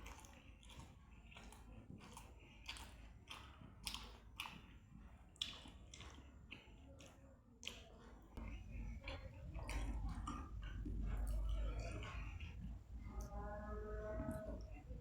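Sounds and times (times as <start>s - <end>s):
wet mouth clicks and smacks: 0.0s - 12.8s
person chewing food: 0.0s - 13.4s.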